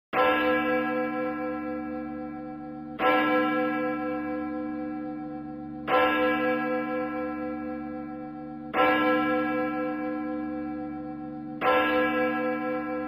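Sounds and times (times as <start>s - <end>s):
church bell tolling: 0.2s - 13.0s.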